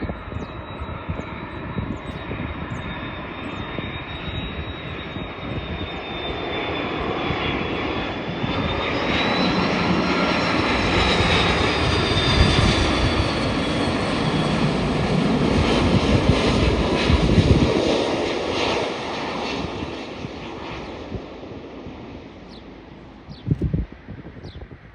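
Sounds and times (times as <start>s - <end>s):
jet engines roaring and whining: 0.0s - 24.9s.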